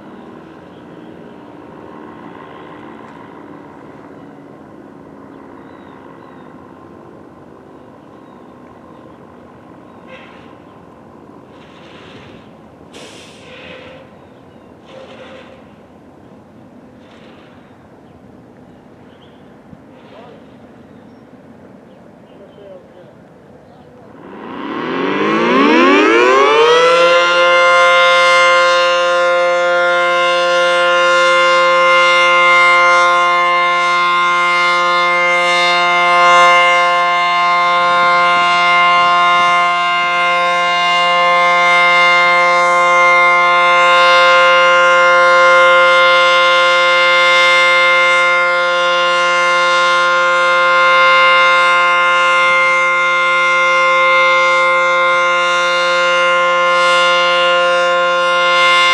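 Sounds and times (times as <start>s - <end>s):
tornado siren wailing: 0.0s - 16.1s, 24.0s - 58.9s.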